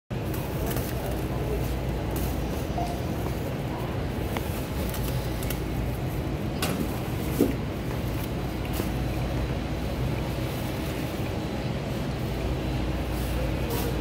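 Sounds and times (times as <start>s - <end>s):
store interior background noise: 0.1s - 14.0s.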